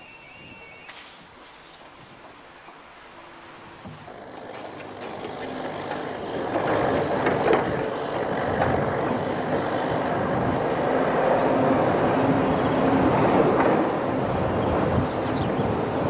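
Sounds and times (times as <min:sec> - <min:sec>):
diesel train approaching: 0:00.0 - 0:16.0
train wheels clacking on rails: 0:01.8 - 0:16.0.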